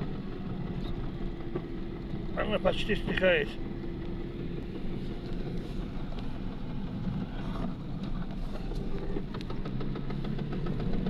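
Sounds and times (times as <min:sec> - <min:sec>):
drivetrain and road noise: 0:00.0 - 0:11.0.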